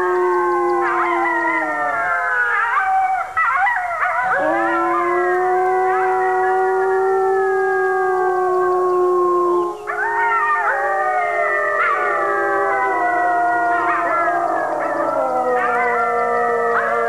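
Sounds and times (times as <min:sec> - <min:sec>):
wolf pups howling: 0:00.0 - 0:17.0
wolves howling in chorus: 0:00.0 - 0:17.0.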